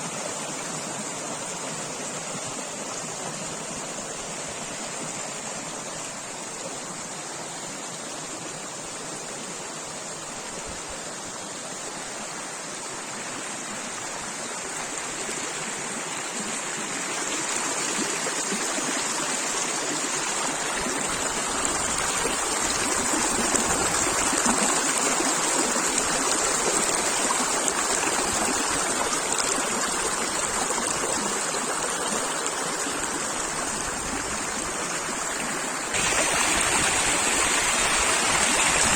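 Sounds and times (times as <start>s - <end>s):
running water stream: 0.0s - 38.9s.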